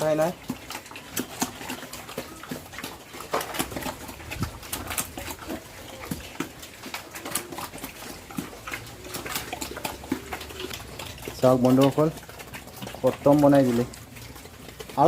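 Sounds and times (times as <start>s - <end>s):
pigs chomping feed: 0.0s - 15.0s.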